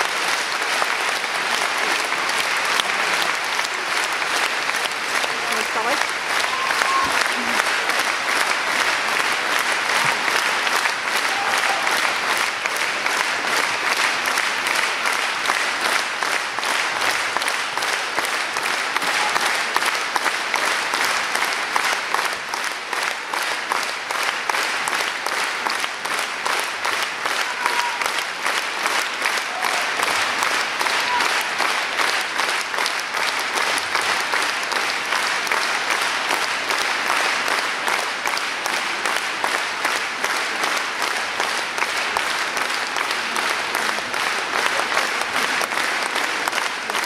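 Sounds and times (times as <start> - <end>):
audience clapping: 0.0 - 47.0.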